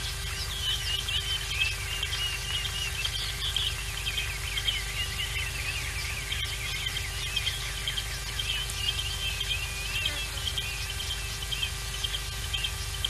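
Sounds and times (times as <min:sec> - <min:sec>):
birds chirping and calling: 0:00.0 - 0:13.0
low electrical hum: 0:00.0 - 0:13.0.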